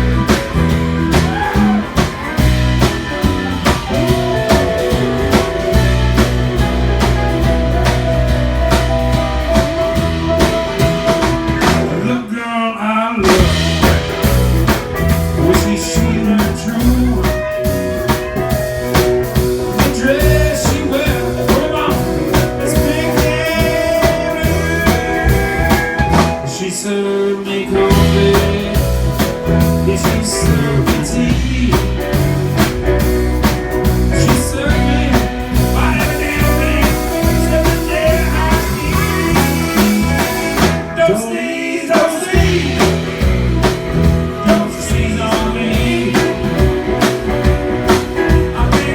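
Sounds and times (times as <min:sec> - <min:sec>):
bass guitar: 0:00.0 - 0:12.3, 0:13.2 - 0:48.9
electric guitar: 0:00.0 - 0:12.3, 0:13.2 - 0:48.9
drums: 0:00.0 - 0:12.5, 0:13.1 - 0:48.9
person singing: 0:00.0 - 0:33.1, 0:33.8 - 0:48.9.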